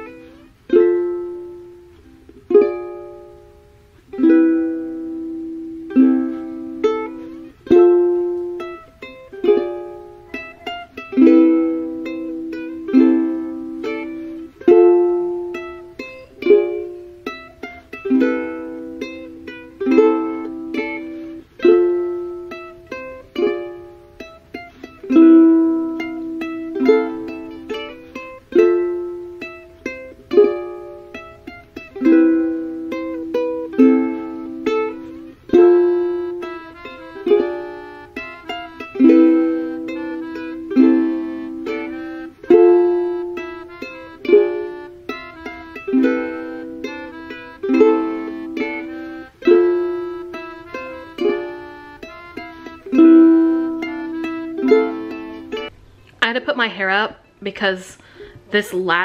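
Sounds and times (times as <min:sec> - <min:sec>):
plucked string instrument strumming: 0:00.0 - 0:56.4.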